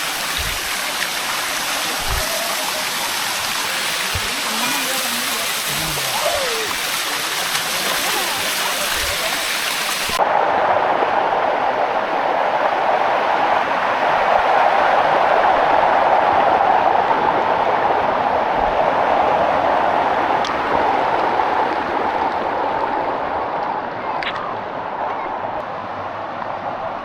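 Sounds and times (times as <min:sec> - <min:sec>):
waterfall water rushing over stones: 0:00.0 - 0:23.4.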